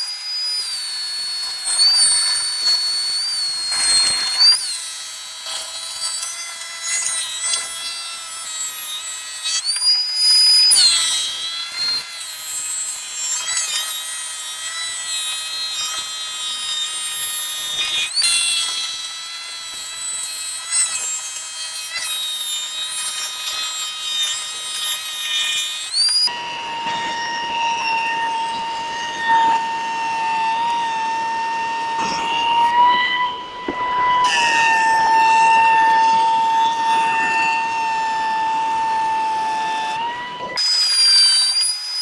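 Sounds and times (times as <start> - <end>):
power tool motor whine: 0.0 - 42.0.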